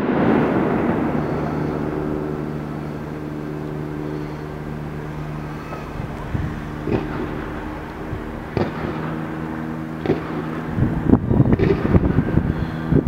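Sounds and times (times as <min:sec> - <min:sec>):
fireworks bangs: 0:00.0 - 0:12.4
low mechanical hum: 0:00.0 - 0:13.0.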